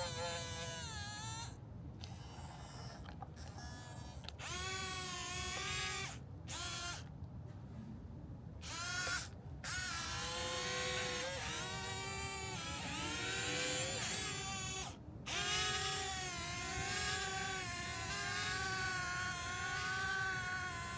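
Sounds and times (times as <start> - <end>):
toy excavator motors whirring: 0.0 - 7.1, 8.6 - 20.9.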